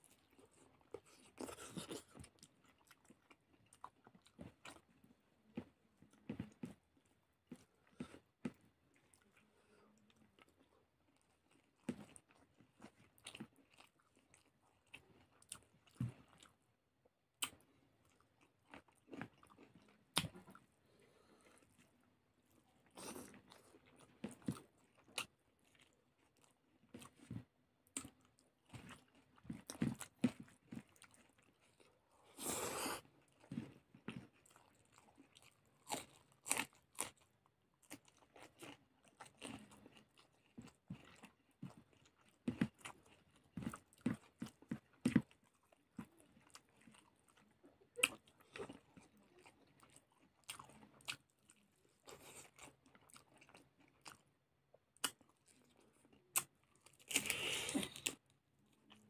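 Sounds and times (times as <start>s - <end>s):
person chewing: 0.0s - 16.6s, 17.3s - 59.0s.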